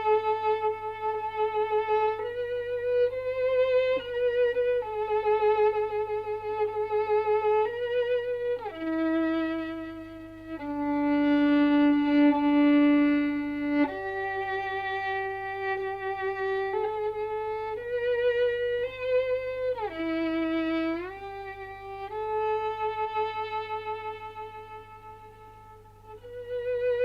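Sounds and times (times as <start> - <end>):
bowed string solo melody: 0.0 - 27.0.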